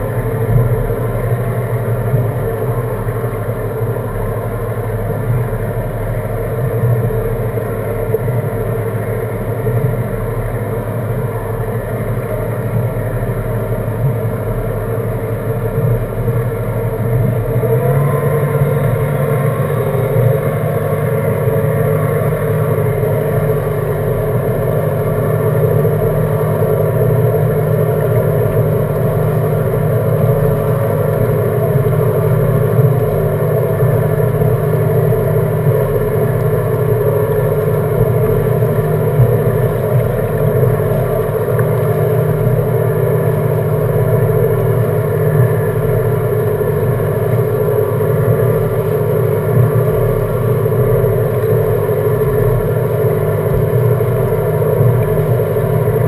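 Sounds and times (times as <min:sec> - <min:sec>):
outboard motor idling: 0:00.0 - 0:56.0.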